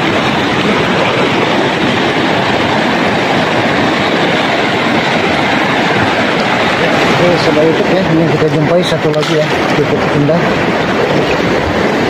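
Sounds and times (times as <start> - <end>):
river water rushing over pebbles: 0.0 - 12.0.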